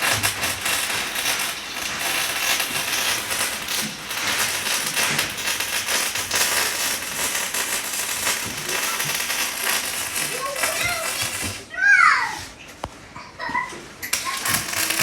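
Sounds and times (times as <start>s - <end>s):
welding arc crackling: 0.0s - 11.7s, 14.0s - 15.0s.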